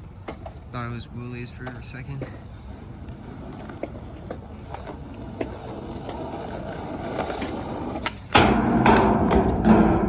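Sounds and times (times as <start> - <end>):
skateboard wheels rolling on concrete: 0.0 - 10.0.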